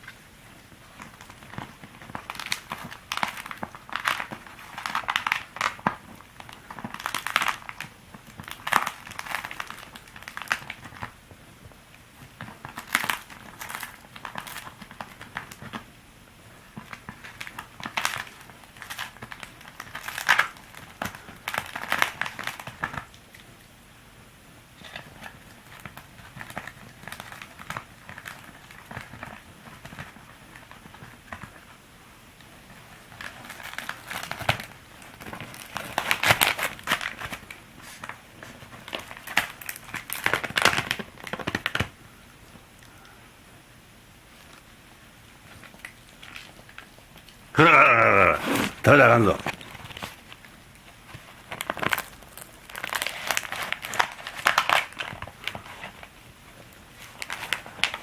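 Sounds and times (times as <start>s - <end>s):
palm-leaf hat crinkling: 0.0s - 11.3s, 12.1s - 15.9s, 16.7s - 23.5s, 24.8s - 31.8s, 32.5s - 43.1s, 45.4s - 58.0s.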